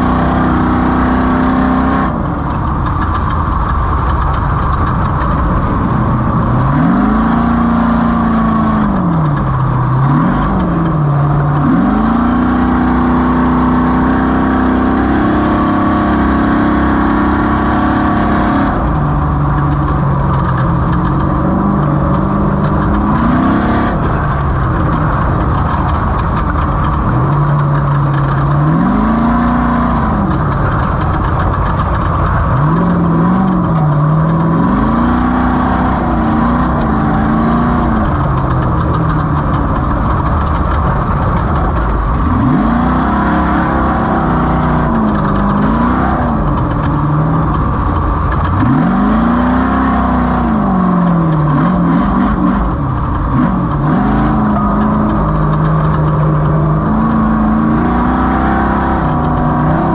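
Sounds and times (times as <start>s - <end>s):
drivetrain and terrain roar: 0.0s - 59.9s
race vehicle engine revving: 0.0s - 59.9s.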